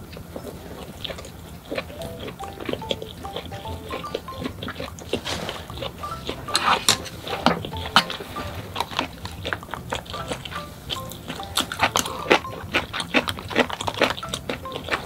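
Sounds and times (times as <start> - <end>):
chewing and mouth sounds: 0.0 - 15.0
background music: 1.9 - 15.0
chopsticks and utensils clinking: 1.9 - 15.0.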